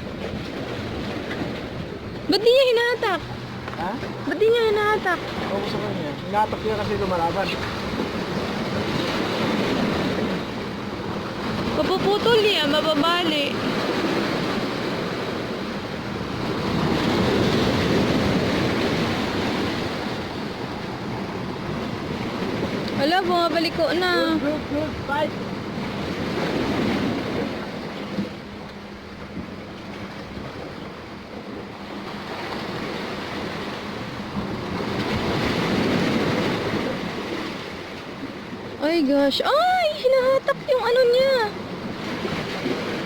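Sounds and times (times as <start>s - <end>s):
sea waves washing: 0.0s - 43.0s
wind buffeting microphone: 0.0s - 43.0s.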